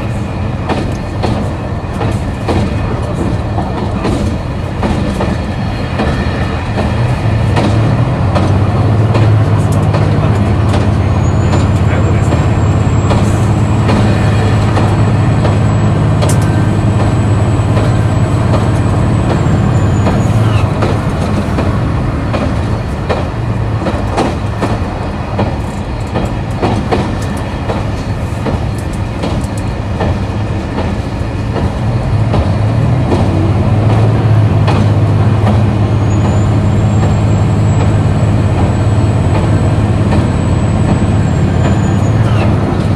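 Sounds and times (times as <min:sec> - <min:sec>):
diesel railcar engine drone: 0:00.0 - 0:42.9
wheels clicking over rail joints: 0:00.6 - 0:42.9.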